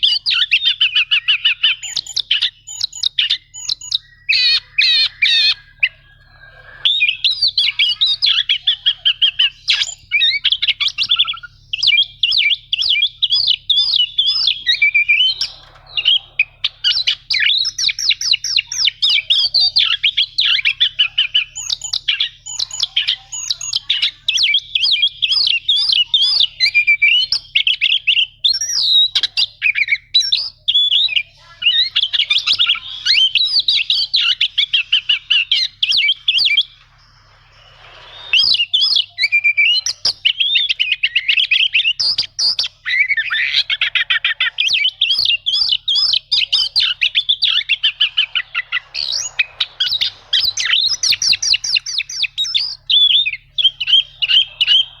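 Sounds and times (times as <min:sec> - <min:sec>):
bird singing chattering trills: 0:00.0 - 0:55.0.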